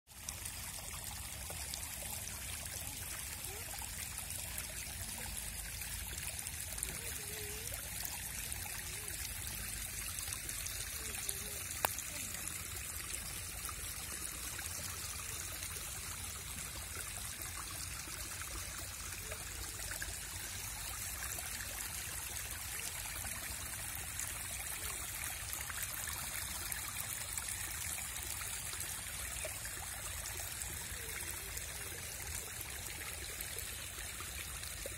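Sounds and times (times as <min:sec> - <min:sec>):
rainwater trickling and flowing: 0:00.1 - 0:34.9.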